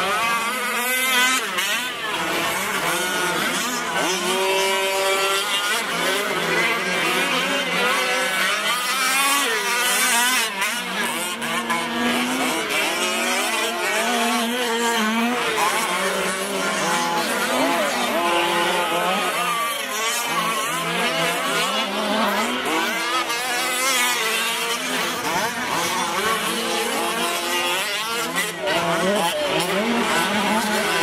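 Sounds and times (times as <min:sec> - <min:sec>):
small two-stroke engines whining: 0:00.0 - 0:31.0.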